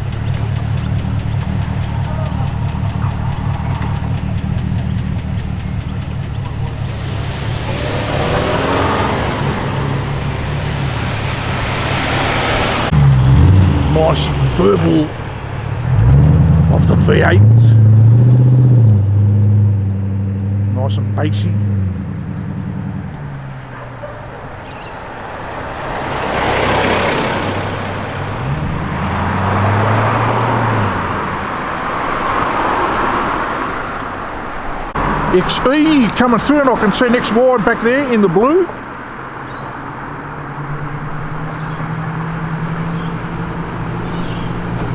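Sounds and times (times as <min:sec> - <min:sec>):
car engine passing slowly: 0:00.0 - 0:44.9
road noise: 0:00.0 - 0:44.9.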